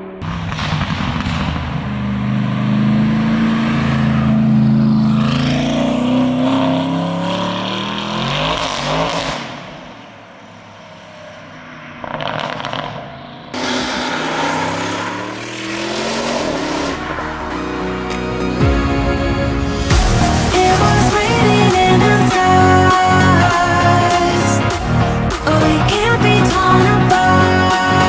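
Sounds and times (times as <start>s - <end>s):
car passing: 0.0s - 27.3s
car engine accelerating hard: 0.0s - 28.0s.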